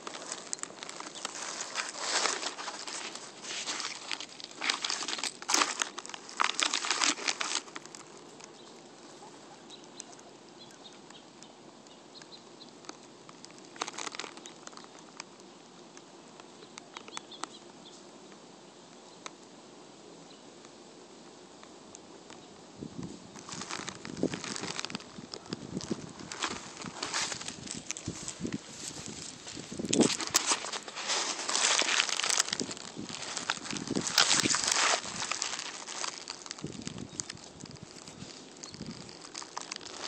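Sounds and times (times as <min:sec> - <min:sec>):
guinea pig nibbling dry leaves: 0:00.0 - 0:18.0, 0:23.0 - 0:40.0.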